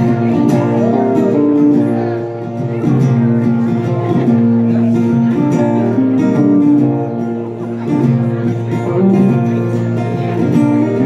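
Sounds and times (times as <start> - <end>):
blues-rock band playing: 0.0 - 11.0
guitar: 0.0 - 11.0.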